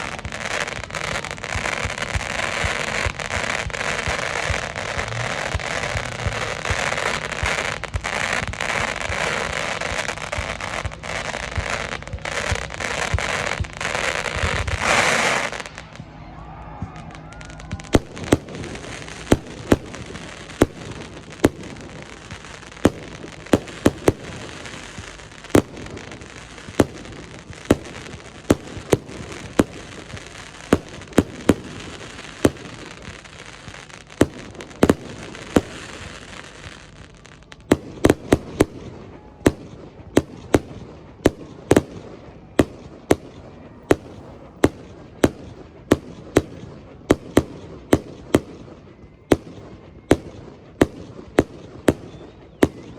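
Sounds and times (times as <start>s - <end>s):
aerial fireworks bangs: 0.0s - 37.0s, 37.6s - 52.9s
fireworks crackle and hiss: 0.0s - 52.9s.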